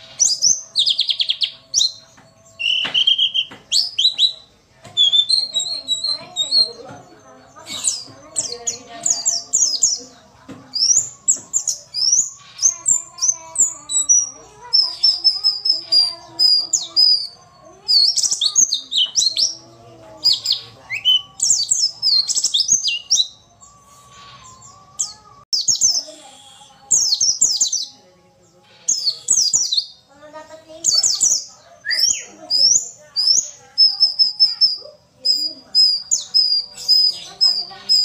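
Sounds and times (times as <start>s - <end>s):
bird chirping and trilling: 0.0s - 38.0s.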